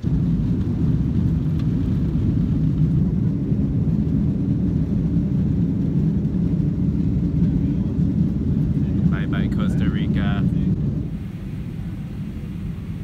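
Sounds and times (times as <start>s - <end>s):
jet engine drone in cabin: 0.0s - 13.0s.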